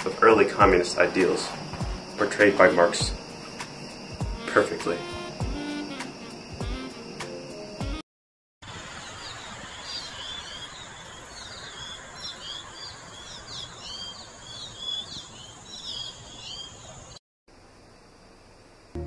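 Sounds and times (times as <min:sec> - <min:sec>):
birds chirping: 0:00.0 - 0:07.2, 0:08.7 - 0:17.2
steady outdoor hiss: 0:00.0 - 0:08.0, 0:08.6 - 0:19.0.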